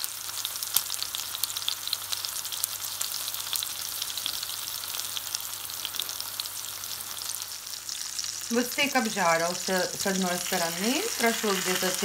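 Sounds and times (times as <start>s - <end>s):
steak sizzling in hot oil: 0.0s - 12.0s.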